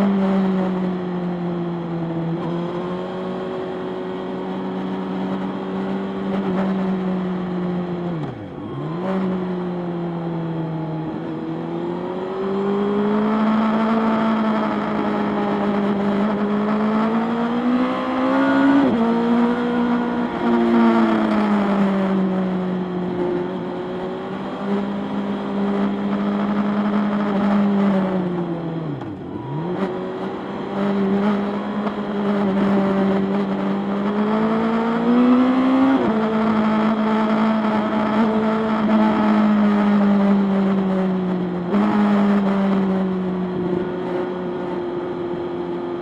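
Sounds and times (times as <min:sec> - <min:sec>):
motorcycle engine: 0:00.0 - 0:46.0.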